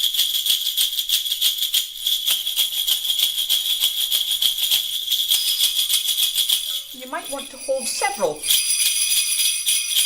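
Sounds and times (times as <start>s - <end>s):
sleigh bells jingling: 0.0s - 10.0s.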